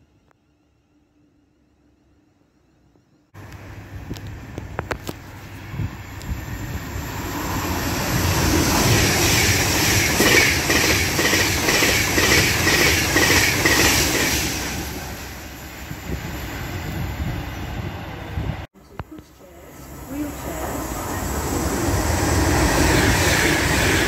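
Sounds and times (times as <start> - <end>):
electric train passing: 3.4 - 24.0.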